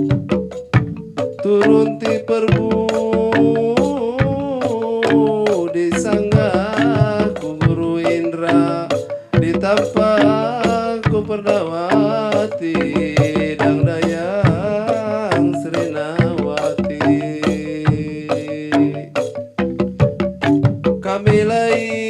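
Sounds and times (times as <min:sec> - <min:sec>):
held instrumental tones: 0:00.0 - 0:22.0
struck percussion: 0:00.0 - 0:22.0
solo voice singing: 0:01.4 - 0:19.0, 0:21.0 - 0:22.0.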